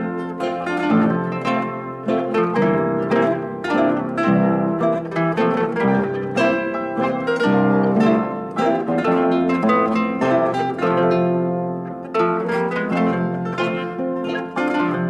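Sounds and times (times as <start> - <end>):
plucked string music: 0.0 - 15.0.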